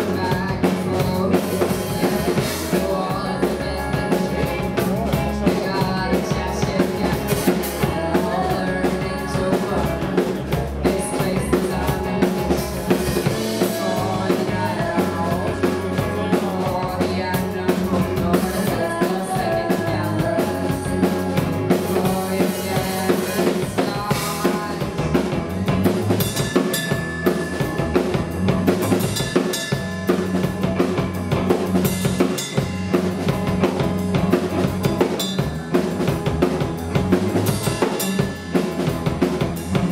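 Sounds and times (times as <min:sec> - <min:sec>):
bass guitar: 0:00.0 - 0:39.9
drum kit beat: 0:00.0 - 0:39.9
electric guitars: 0:00.0 - 0:39.9.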